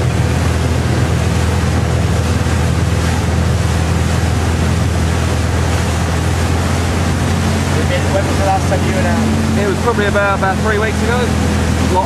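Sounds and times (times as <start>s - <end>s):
motorboat engine droning: 0.0s - 12.0s
water rushing past hull: 0.0s - 12.0s
wind buffeting microphone: 0.0s - 12.0s.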